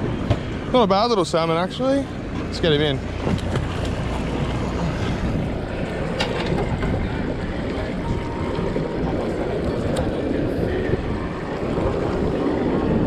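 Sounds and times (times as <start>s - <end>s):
water against boat hull: 0.0s - 13.0s
wind buffeting microphone: 0.0s - 13.0s.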